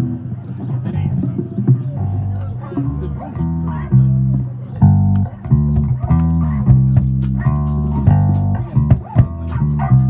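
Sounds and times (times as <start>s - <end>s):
bass guitar line: 0.0s - 10.0s
plucked guitar: 0.0s - 10.0s.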